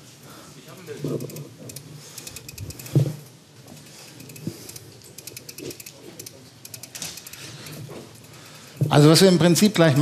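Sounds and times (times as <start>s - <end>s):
faint clicks and rustling: 0.8s - 9.2s.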